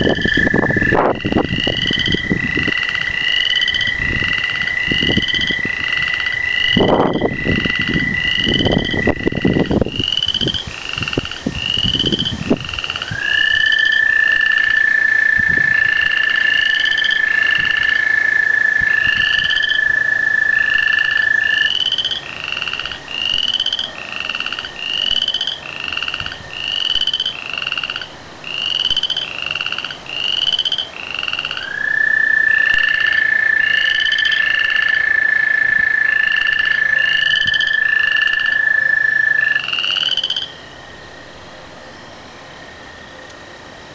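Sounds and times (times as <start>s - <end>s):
frogs calling: 0.0s - 43.7s.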